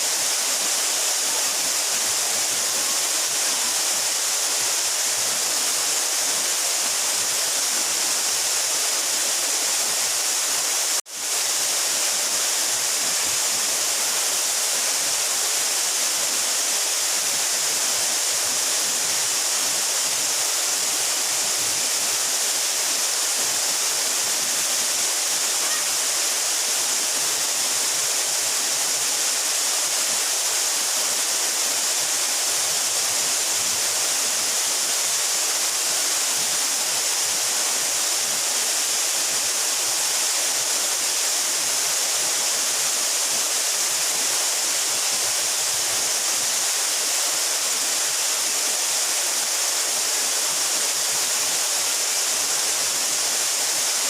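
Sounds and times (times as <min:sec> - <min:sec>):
waterfall hissing: 0:00.0 - 0:54.0.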